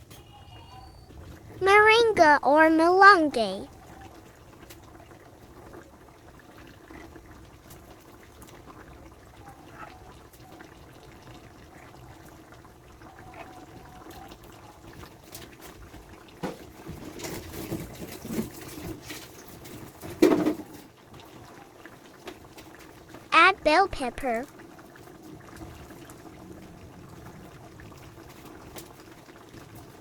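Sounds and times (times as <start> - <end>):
stew simmering with soft bubbling: 0.0 - 30.0.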